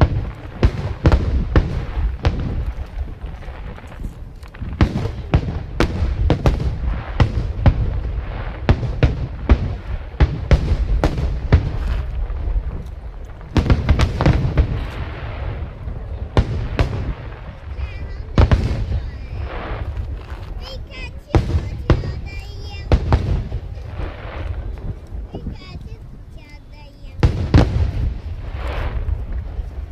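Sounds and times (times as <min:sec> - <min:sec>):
continuous low rumble: 0:00.0 - 0:29.9.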